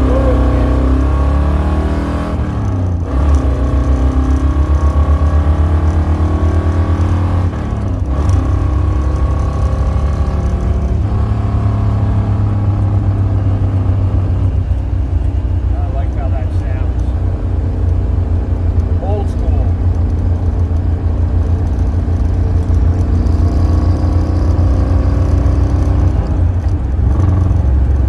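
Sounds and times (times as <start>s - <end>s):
car engine under throttle: 0.0s - 28.0s.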